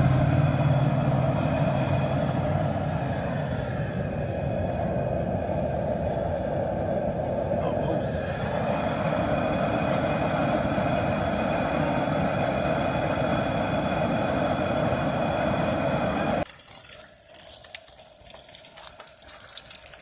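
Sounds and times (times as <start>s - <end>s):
gas burner roaring: 0.0s - 16.5s.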